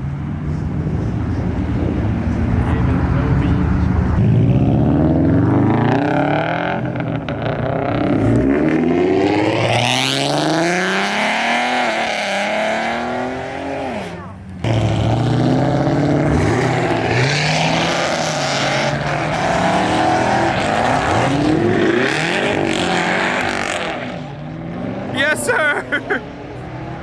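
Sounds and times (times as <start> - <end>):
car engine accelerating: 0.0 - 25.5
car engine revving and pulling away: 0.0 - 27.0.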